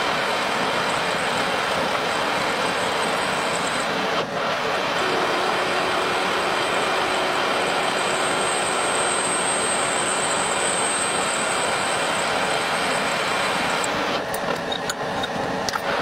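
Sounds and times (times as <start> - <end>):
faint high whine: 0.0 - 16.0
metal lathe running: 0.0 - 16.0.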